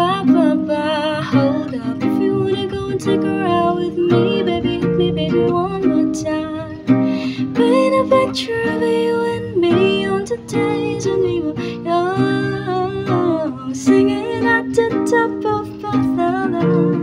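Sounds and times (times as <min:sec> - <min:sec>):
acoustic guitar strummed: 0:00.0 - 0:17.0
young woman singing: 0:00.0 - 0:17.0.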